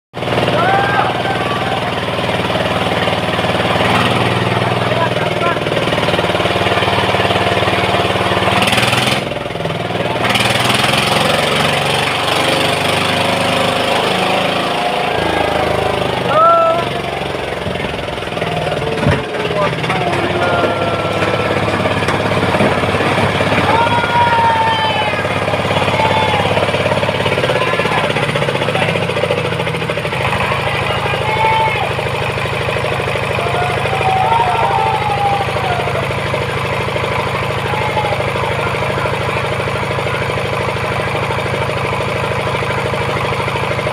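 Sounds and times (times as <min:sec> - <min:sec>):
engine running: 0:00.1 - 0:43.9.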